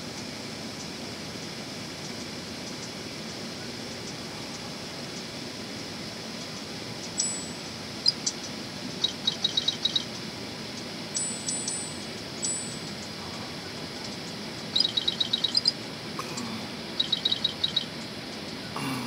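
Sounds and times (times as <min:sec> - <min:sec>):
steady background hiss: 0:00.0 - 0:19.0
small birds chirping: 0:00.1 - 0:19.0.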